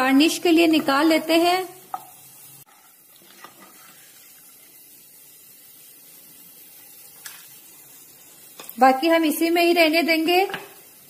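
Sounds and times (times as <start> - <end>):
peanuts sizzling in oil: 0.0 - 11.0.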